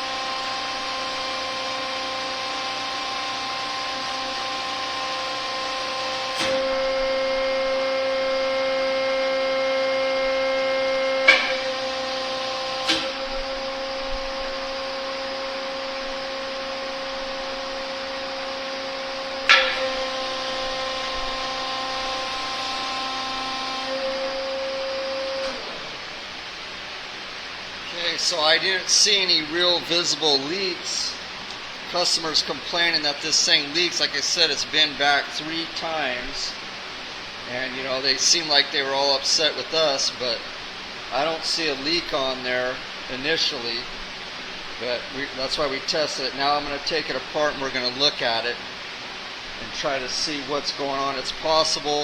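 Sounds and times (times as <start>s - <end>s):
hydraulic pump whining hum: 0.0s - 52.0s.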